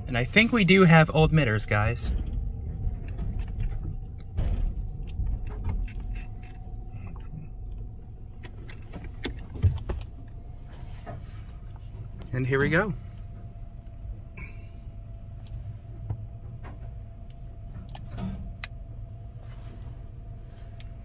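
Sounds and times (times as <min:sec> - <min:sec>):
car wash equipment rumble: 0:00.0 - 0:21.0
faint steady hum: 0:00.0 - 0:21.0.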